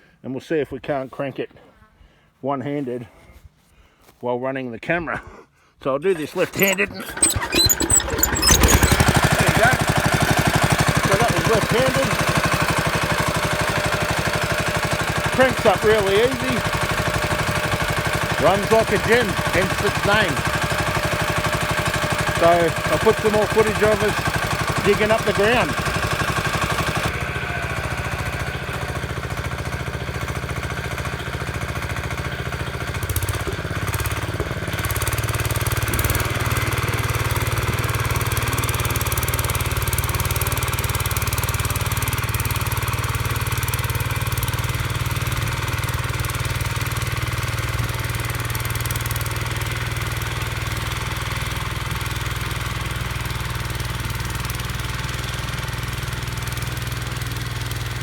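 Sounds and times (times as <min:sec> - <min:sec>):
small tractor engine running: 0:06.2 - 0:58.0.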